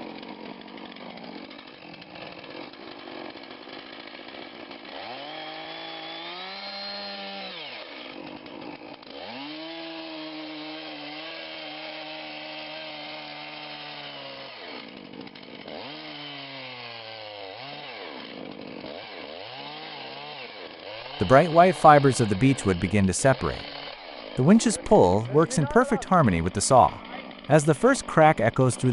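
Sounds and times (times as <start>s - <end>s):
chainsaw cutting wood: 0.0s - 28.9s.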